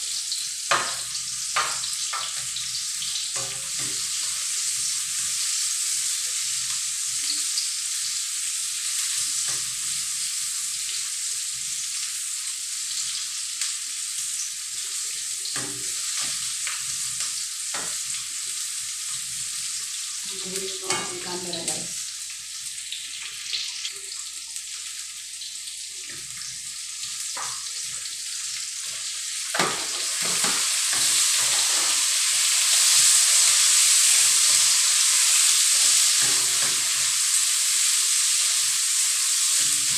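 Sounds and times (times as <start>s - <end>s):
garlic and onions sizzling: 0.0s - 39.9s.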